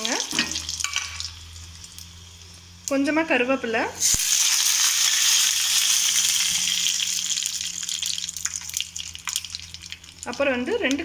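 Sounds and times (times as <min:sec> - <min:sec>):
oil crackling and popping: 0:00.0 - 0:03.0, 0:04.0 - 0:11.0
curry leaves sizzling in hot oil: 0:00.0 - 0:11.0.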